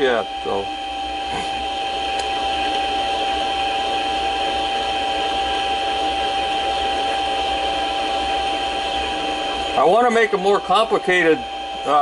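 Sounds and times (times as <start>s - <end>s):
lathe cutting with steady whine: 0.0s - 12.0s.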